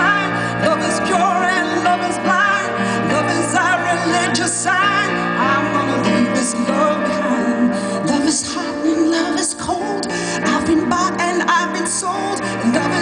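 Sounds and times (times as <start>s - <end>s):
piano chords: 0.0s - 13.0s
woman singing with vibrato: 0.0s - 13.0s.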